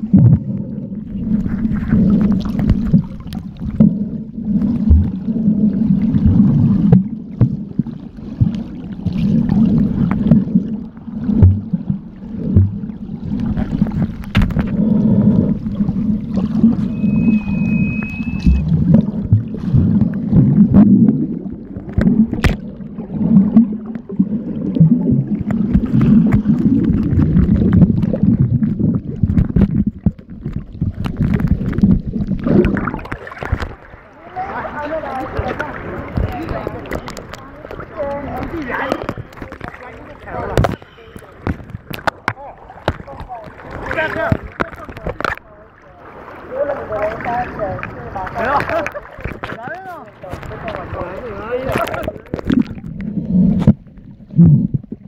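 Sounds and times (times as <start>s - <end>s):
water surging underwater: 0.0s - 55.0s.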